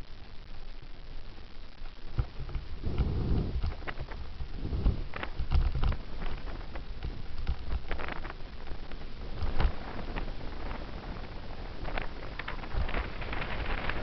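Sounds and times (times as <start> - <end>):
wind buffeting microphone: 2.4 - 14.0.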